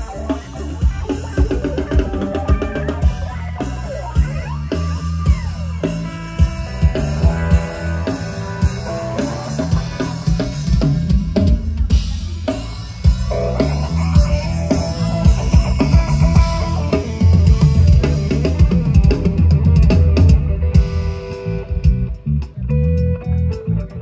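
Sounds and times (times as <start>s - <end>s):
drum kit beat: 0.0s - 24.0s
guitar bending notes: 0.0s - 24.0s
heavy bass line: 0.0s - 24.0s.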